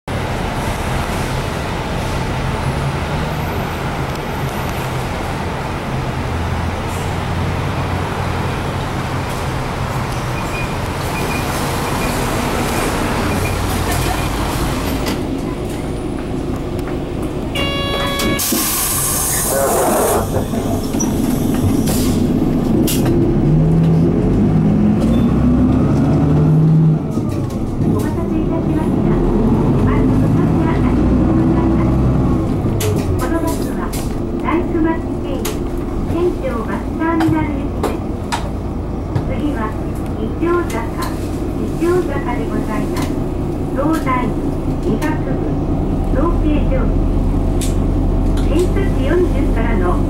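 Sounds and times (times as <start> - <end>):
bus diesel engine running: 0.1 - 50.0.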